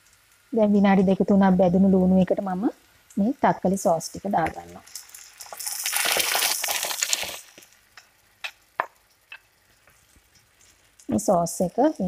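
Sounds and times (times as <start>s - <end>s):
sauce sizzling in hot oil: 0.0s - 12.0s.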